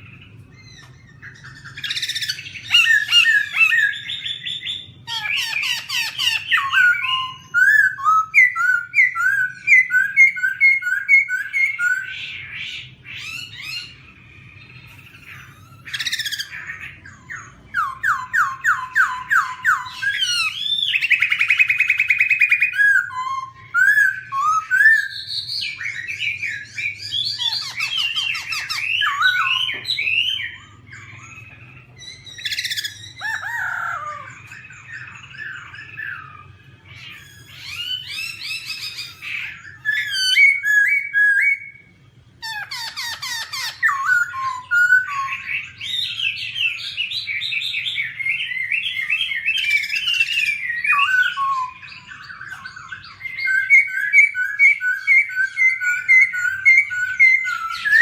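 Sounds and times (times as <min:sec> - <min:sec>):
bird singing whistled song: 0:00.0 - 0:58.0.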